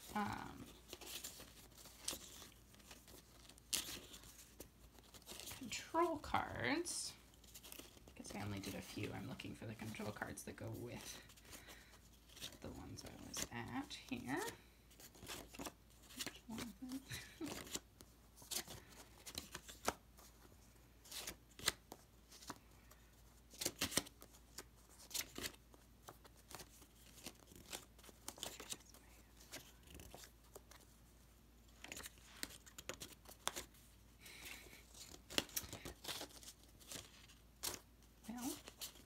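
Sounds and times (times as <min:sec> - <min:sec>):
paper cards rustling: 0:00.0 - 0:39.0.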